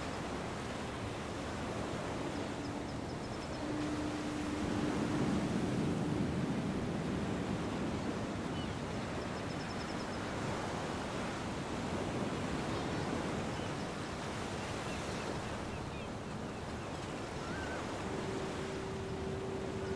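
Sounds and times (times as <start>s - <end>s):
ocean surf washing onto beach: 0.0s - 19.9s.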